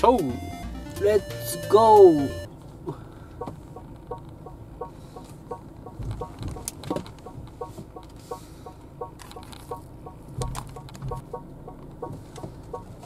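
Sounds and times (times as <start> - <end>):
low cabin hum: 0.0 - 13.0
turn signal tick-tock clicks: 2.3 - 13.0.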